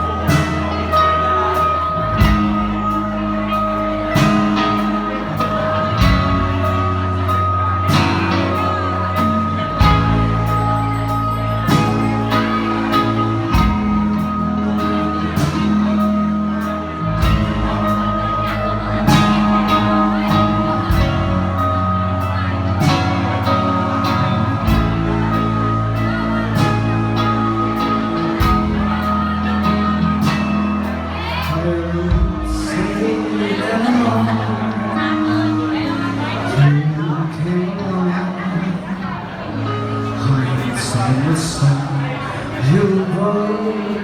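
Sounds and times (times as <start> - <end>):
crowd voices: 0.0 - 44.0
live band playing pop song: 0.0 - 44.0
person singing: 0.0 - 44.0.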